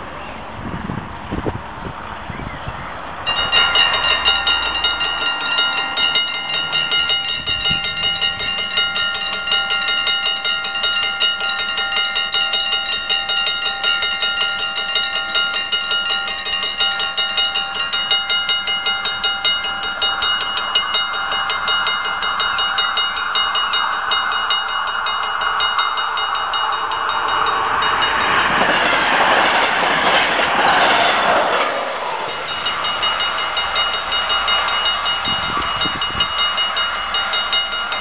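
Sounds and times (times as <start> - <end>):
level crossing warning bell ringing: 3.2 - 30.2, 32.2 - 38.0.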